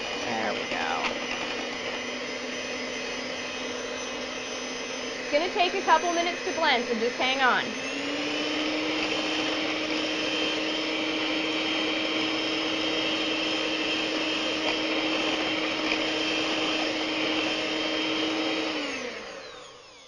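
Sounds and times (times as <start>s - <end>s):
electric hand mixer running: 0.0s - 20.0s.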